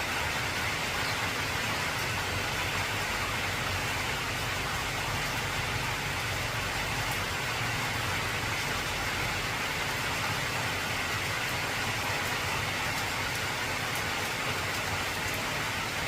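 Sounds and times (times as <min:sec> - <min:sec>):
heavy rain on a tin roof: 0:00.0 - 0:16.0.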